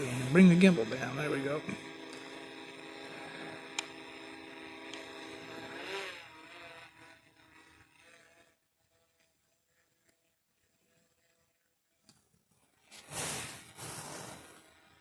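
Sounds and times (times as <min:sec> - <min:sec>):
drone propellers buzzing: 0:00.0 - 0:11.8, 0:12.6 - 0:15.0.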